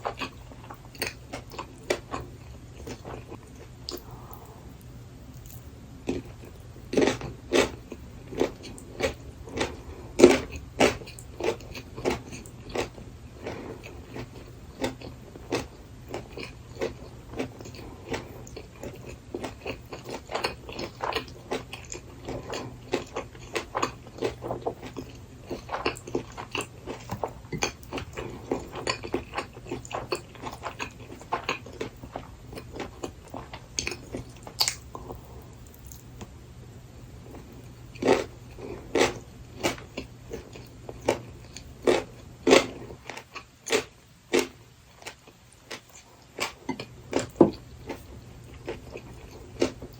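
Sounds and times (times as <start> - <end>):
close-up chewing with crunches: 0.0 - 36.3, 37.2 - 49.9.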